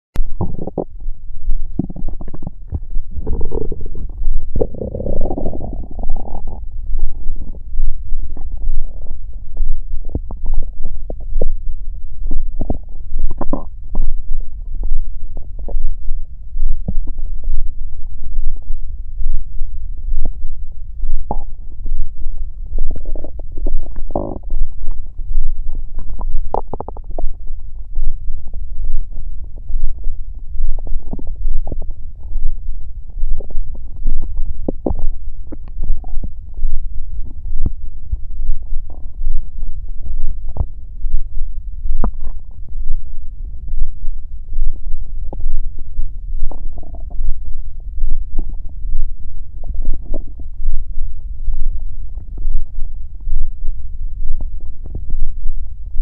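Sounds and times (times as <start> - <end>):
low pulse: 0.1 - 56.0
stomach growling and gurgling: 0.2 - 56.0.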